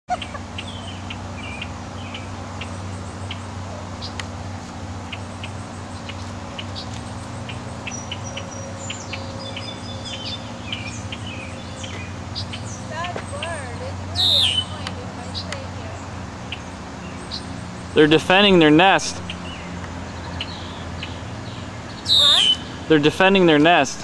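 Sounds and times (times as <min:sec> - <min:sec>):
bird alarm chirps: 0:00.1 - 0:04.2, 0:05.0 - 0:18.5, 0:19.2 - 0:22.8
steady low hum: 0:00.1 - 0:24.0.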